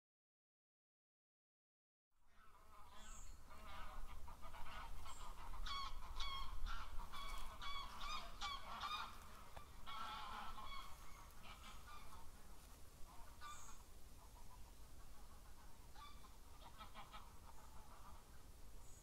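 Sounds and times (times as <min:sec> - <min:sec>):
birds calling: 0:02.4 - 0:19.0.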